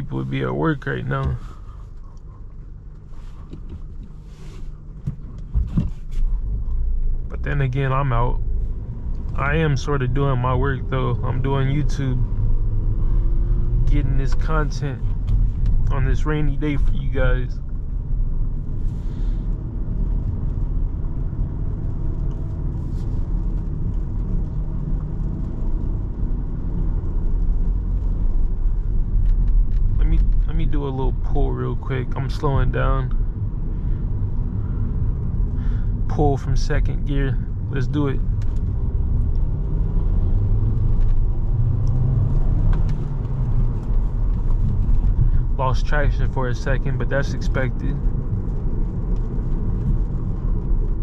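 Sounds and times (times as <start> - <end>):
car engine rumble: 0.0 - 51.0
road noise: 0.0 - 51.0.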